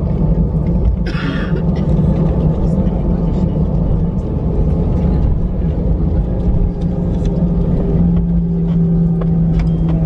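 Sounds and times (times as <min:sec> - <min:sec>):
jet engines in cabin: 0:00.0 - 0:10.0.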